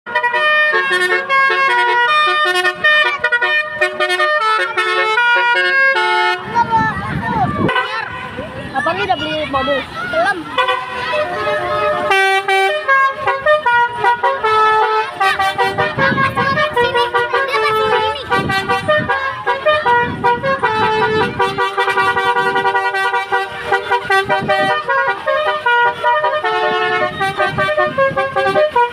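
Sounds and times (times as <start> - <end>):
multi-tone air horns playing tune: 0.1 - 6.7, 7.6 - 8.5, 10.5 - 28.9.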